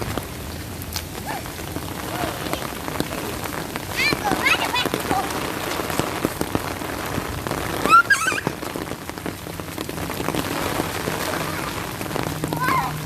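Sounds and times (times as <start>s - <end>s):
rain on hard surfaces: 0.0s - 13.0s.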